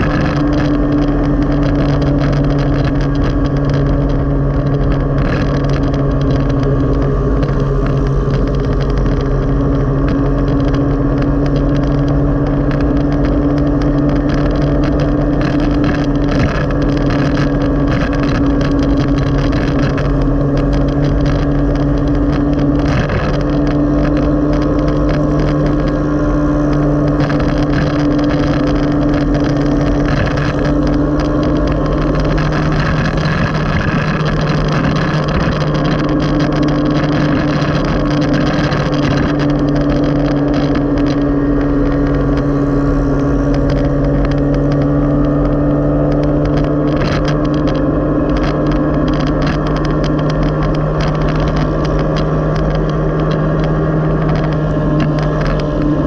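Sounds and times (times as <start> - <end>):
motorcycle engine cruising: 0.0 - 56.0
road noise: 0.0 - 56.0.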